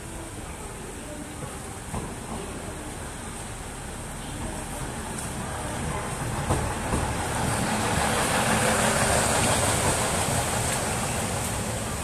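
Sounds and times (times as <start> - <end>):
railcar diesel engine: 0.0 - 12.0
train wheels on rails: 0.0 - 12.0.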